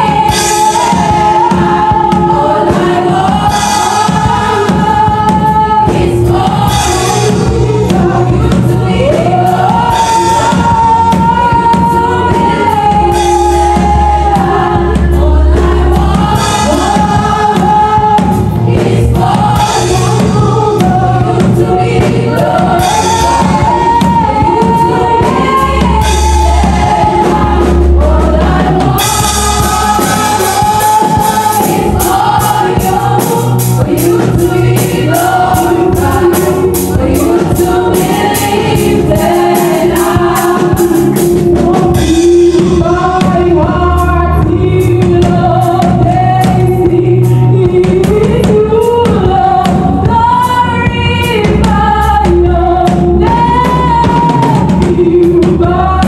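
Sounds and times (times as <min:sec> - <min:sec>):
gospel choir singing: 0:00.0 - 0:56.0
live band with drum kit: 0:00.0 - 0:56.0
woman singing lead vocal: 0:00.0 - 0:56.0.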